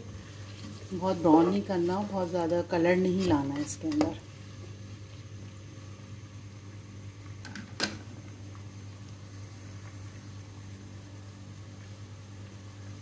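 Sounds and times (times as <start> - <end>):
low steady hum: 0.0 - 13.0
onions sizzling in oil: 0.0 - 13.0.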